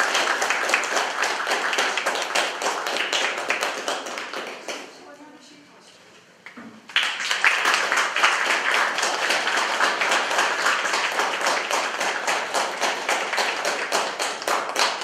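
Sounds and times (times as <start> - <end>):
audience applauding: 0.0 - 4.8, 6.9 - 15.0.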